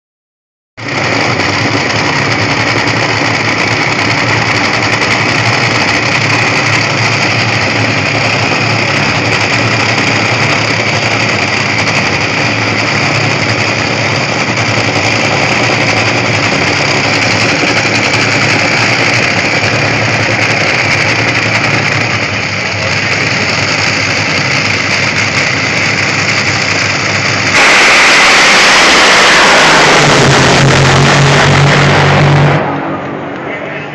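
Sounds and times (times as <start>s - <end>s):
drag racing car engines: 0.8s - 33.9s.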